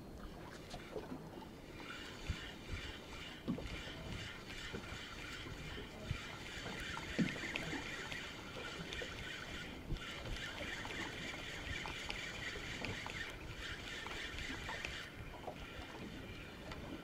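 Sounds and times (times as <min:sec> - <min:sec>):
steady hiss of boat: 0:00.1 - 0:17.0.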